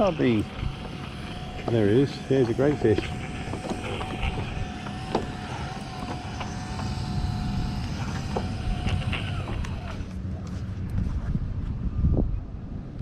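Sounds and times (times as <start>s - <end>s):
jet ski engine whine: 0.0s - 13.0s
wind noise: 0.0s - 13.0s.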